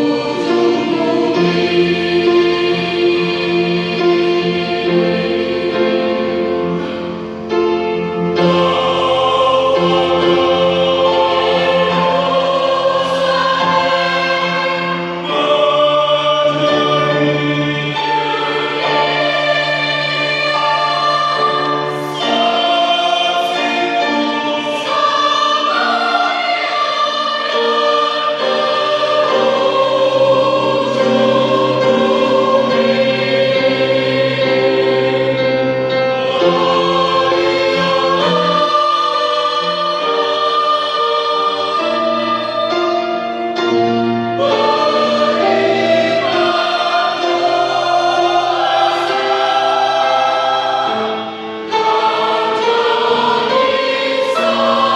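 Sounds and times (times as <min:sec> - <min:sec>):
church choir singing: 0:00.0 - 0:54.9.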